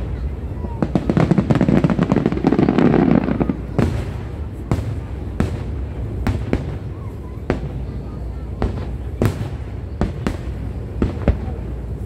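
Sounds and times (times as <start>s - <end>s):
crackling firework bursts: 0.0s - 12.0s
firework bangs: 0.0s - 12.0s.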